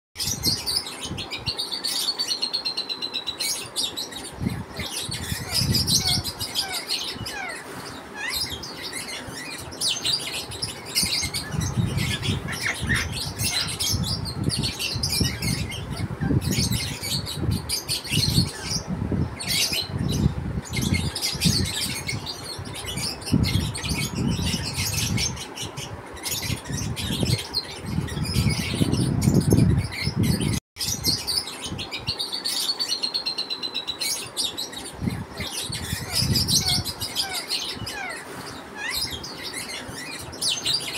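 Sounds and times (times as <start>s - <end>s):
birds chirping: 0.2s - 40.9s.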